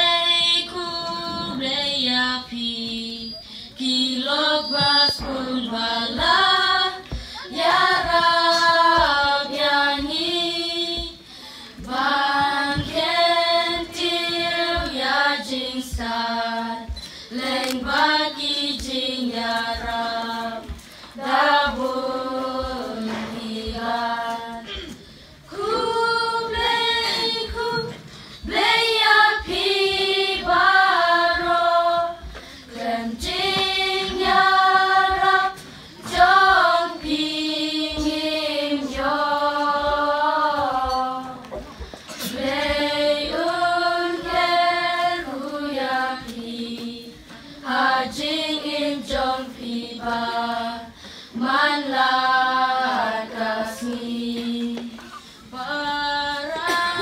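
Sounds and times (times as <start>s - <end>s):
children singing unaccompanied: 0.0s - 57.0s.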